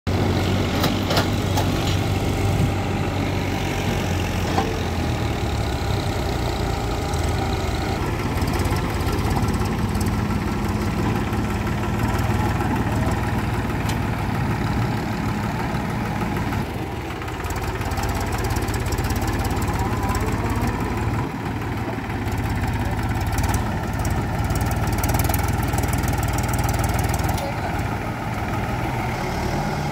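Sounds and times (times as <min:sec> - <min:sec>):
backhoe diesel engine running: 0:00.1 - 0:29.9
tractor diesel engine drone: 0:00.1 - 0:29.9.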